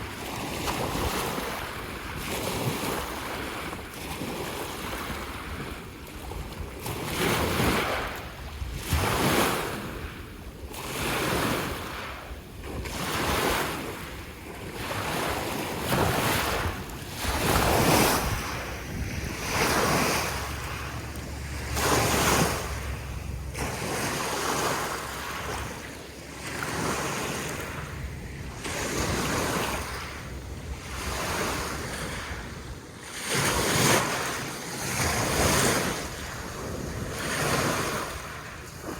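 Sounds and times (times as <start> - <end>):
waves washing on shore: 0.0 - 38.9.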